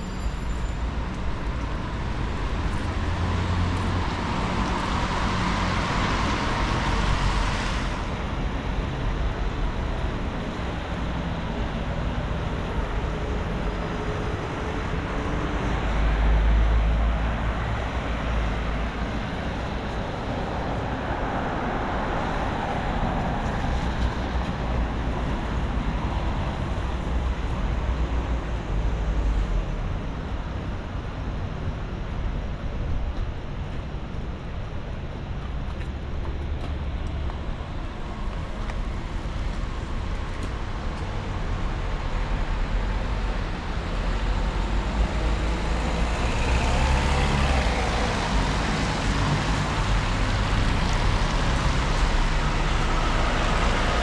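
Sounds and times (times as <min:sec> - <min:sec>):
traffic on wet streets: 0:00.0 - 0:54.0.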